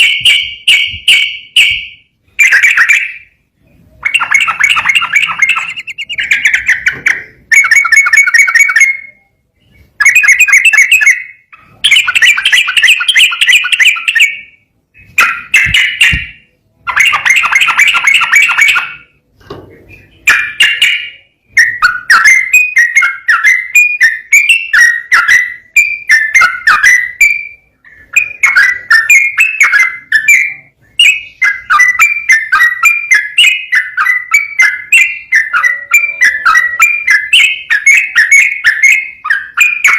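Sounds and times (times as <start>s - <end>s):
bird singing rapid notes: 0.0s - 19.2s, 19.8s - 39.9s.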